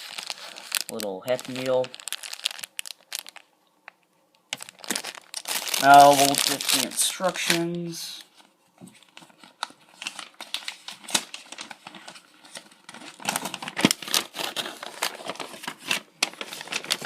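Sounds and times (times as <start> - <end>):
paper crinkling and rustling: 0.0 - 3.5, 4.5 - 17.0.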